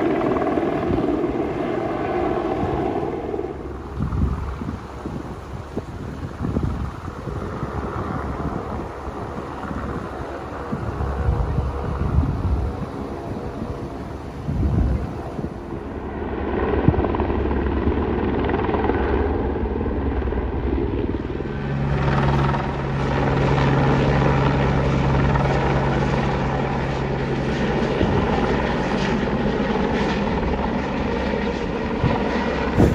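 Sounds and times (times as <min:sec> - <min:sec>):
helicopter rotor drone: 0:00.0 - 0:32.9.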